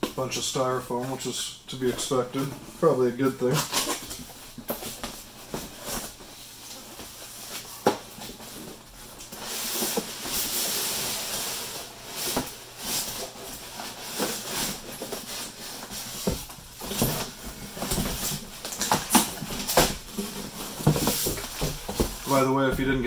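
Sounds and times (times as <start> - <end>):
cardboard and styrofoam rustling: 0.2 - 23.0.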